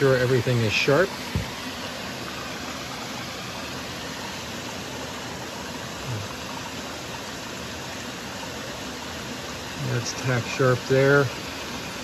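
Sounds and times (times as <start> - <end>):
waterfalls rushing: 0.0 - 12.0.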